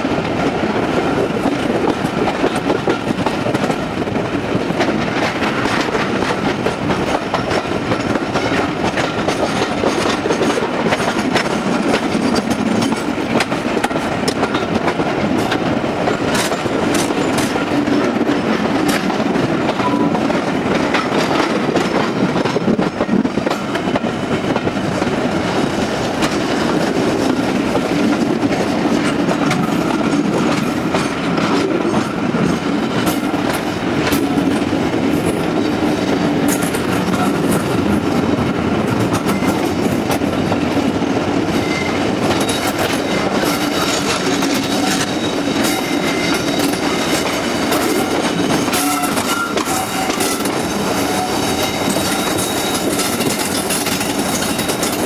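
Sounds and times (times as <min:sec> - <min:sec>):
train rumbling on track: 0:00.0 - 0:55.0
wheels clicking over rail joints: 0:00.0 - 0:55.0.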